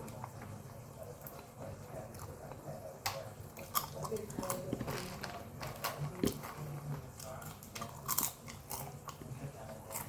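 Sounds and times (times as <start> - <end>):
chewing popcorn: 0.0 - 10.0.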